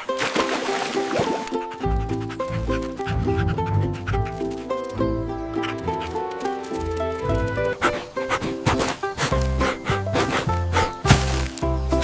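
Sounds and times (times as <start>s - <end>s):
upbeat cartoon music: 1.1s - 12.0s.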